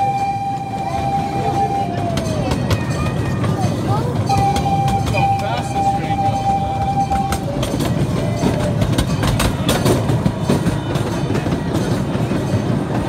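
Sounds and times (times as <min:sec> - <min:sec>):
ride car rumbling on track: 0:00.0 - 0:13.0
wheels clacking and rattling: 0:00.0 - 0:13.0.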